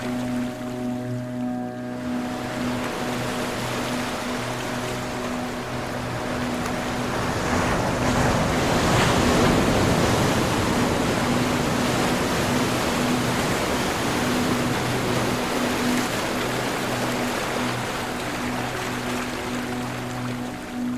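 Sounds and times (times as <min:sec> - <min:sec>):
ocean waves breaking: 0:00.0 - 0:20.9.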